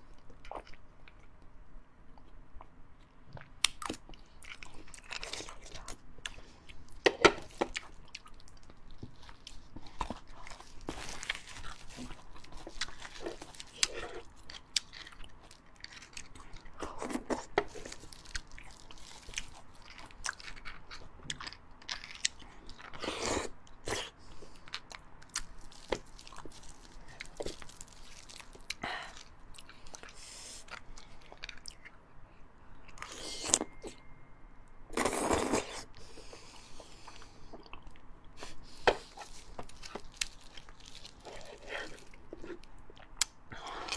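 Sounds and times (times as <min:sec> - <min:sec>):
person chewing: 0:02.2 - 0:32.0, 0:35.0 - 0:43.9.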